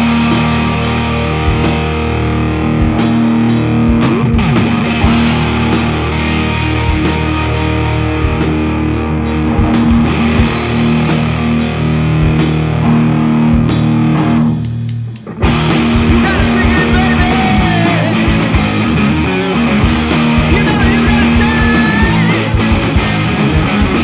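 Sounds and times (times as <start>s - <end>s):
heavy rock song: 0.0s - 24.0s.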